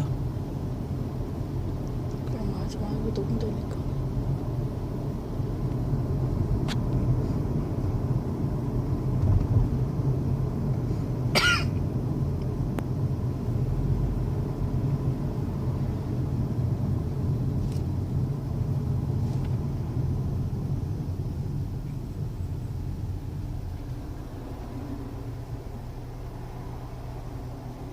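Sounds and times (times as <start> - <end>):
car cabin road noise: 0.0 - 27.9.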